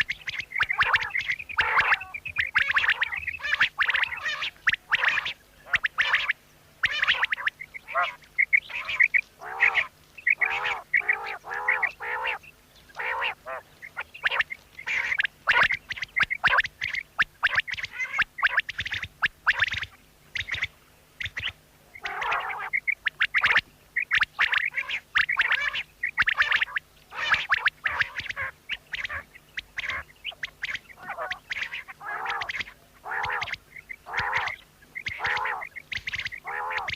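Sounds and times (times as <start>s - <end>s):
quail calling: 0.0s - 36.9s.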